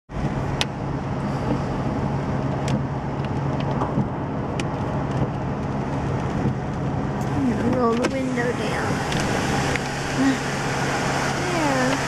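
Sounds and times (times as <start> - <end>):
low engine hum: 0.1 - 12.0
tyre and wind road noise: 0.1 - 12.0.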